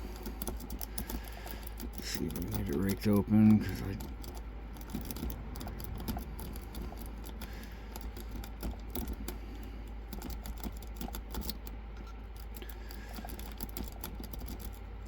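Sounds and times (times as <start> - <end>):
lock pick clicking and scratching: 0.0 - 14.9.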